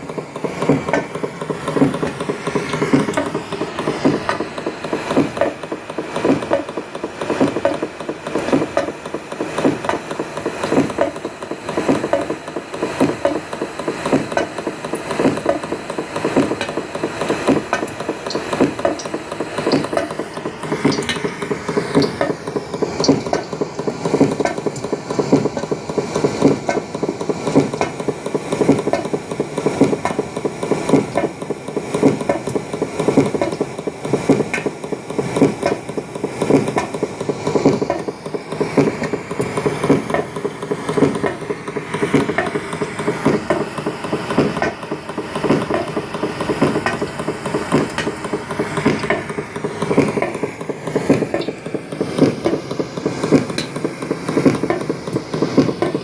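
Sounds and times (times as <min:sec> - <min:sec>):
rapid mechanical knocking: 0:00.0 - 0:56.0.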